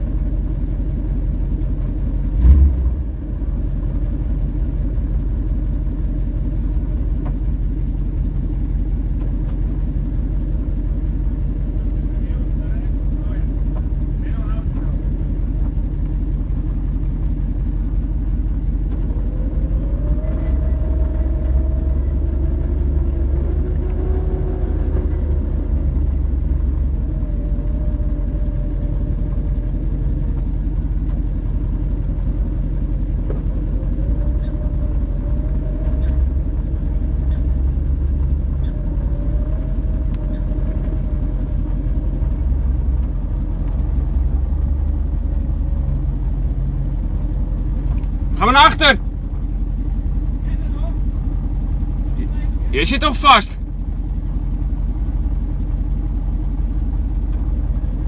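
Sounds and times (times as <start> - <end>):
off-road vehicle engine rumbling: 0.0 - 58.0.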